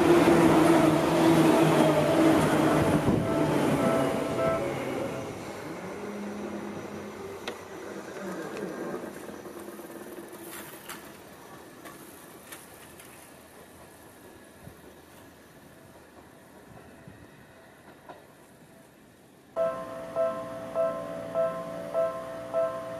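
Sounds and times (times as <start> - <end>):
electric train passing: 0.0 - 22.9.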